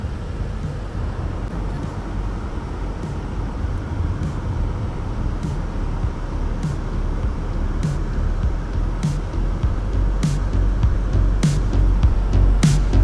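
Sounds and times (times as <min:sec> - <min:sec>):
vehicle road noise rumble: 0:00.0 - 0:13.0.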